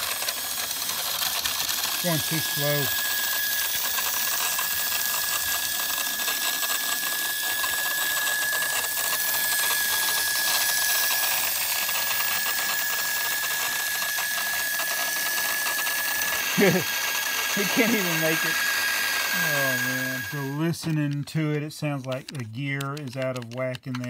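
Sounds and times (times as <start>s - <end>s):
rapid gear clatter: 0.0s - 18.5s, 20.4s - 24.0s
toy motor whining: 0.0s - 24.0s.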